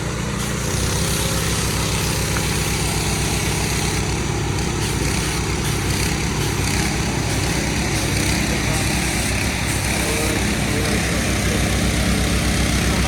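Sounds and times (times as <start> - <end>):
pressure washer motor throbbing: 0.0 - 13.0
water spray hissing: 0.3 - 13.0.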